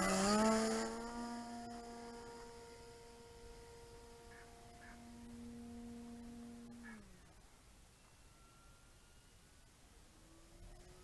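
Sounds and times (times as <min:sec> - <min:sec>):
model plane electric motor humming: 0:00.0 - 0:09.3, 0:10.1 - 0:11.0.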